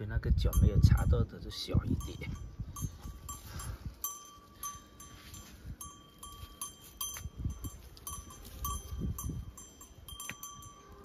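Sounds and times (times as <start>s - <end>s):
small metal bell clinking: 0.5s - 11.0s.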